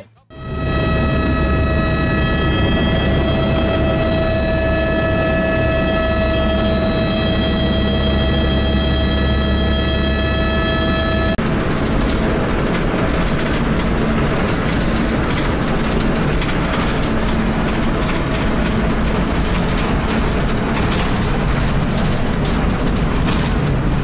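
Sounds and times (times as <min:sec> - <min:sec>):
helicopter cabin noise: 0:00.0 - 0:24.0
helicopter whine: 0:00.3 - 0:24.0.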